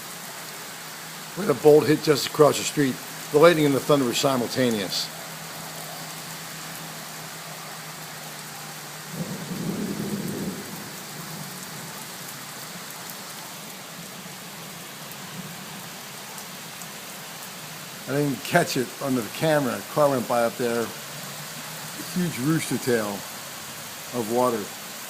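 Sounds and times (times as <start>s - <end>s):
torrential rain pouring: 0.0s - 25.0s.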